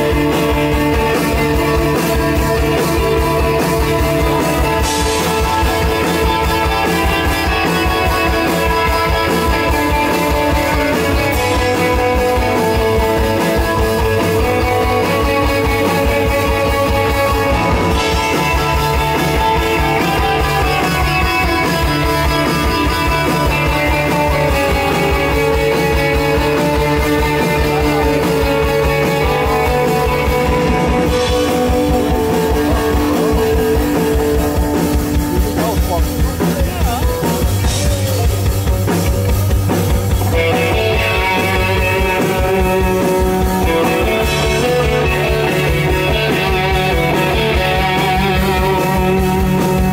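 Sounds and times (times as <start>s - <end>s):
bass guitar: 0.0s - 49.9s
distorted electric guitars: 0.0s - 49.9s
driving drum beat: 0.0s - 49.9s.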